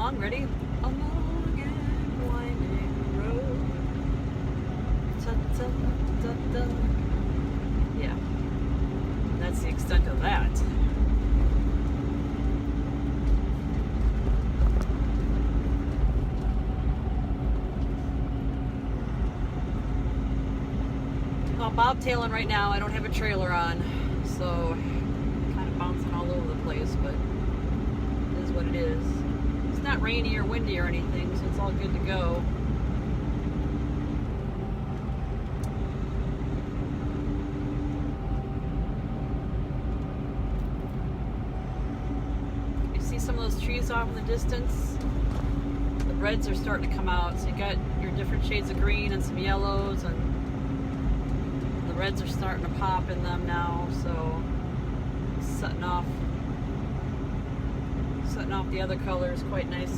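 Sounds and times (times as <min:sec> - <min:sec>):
faint constant drone: 0:00.0 - 0:59.9
truck engine and road rumble: 0:00.0 - 0:59.9.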